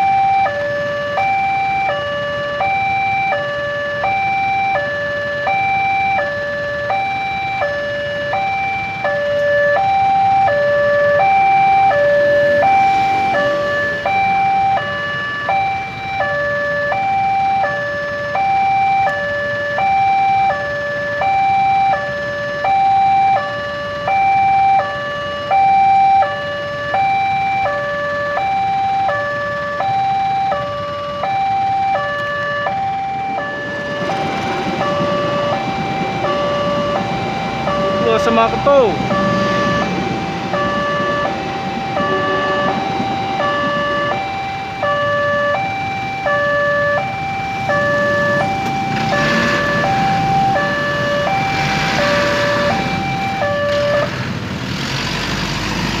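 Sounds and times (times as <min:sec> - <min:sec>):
level crossing two-tone alarm: 0:00.0 - 0:54.2.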